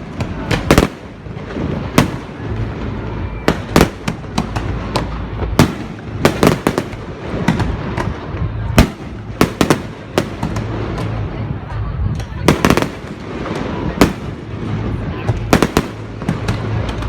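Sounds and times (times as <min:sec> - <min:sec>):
fireworks bangs and cracks: 0:00.0 - 0:17.0
low rumble of fireworks: 0:00.0 - 0:17.0.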